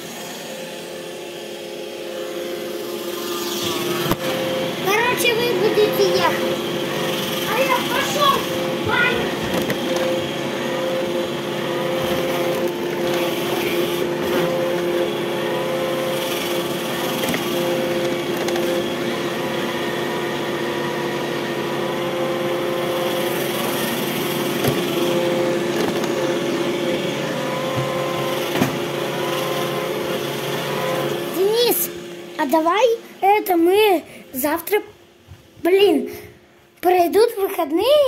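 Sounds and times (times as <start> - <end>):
robot vacuum motor hum: 0.0 - 34.7.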